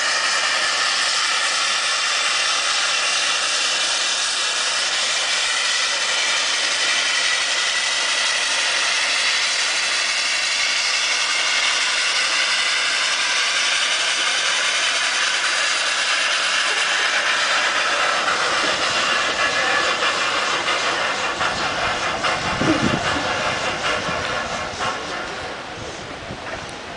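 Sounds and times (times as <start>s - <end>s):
steam locomotive hissing: 0.0s - 26.9s.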